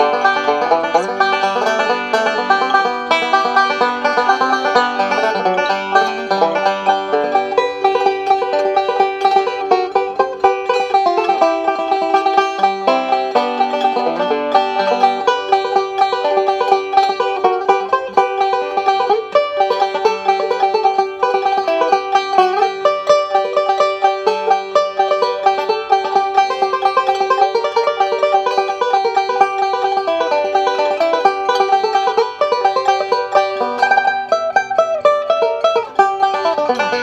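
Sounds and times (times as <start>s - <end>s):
banjo picking: 0.0s - 37.0s.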